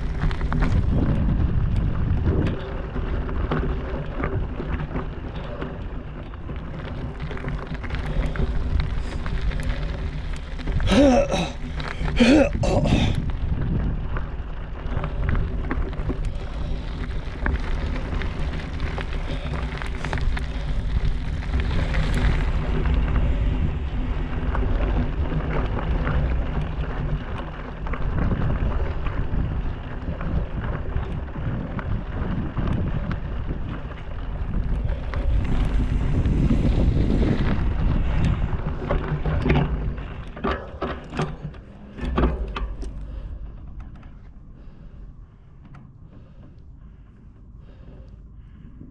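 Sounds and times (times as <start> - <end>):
bicycle rattling over rocky trail: 0.0 - 48.9
wind buffeting microphone: 0.0 - 48.9.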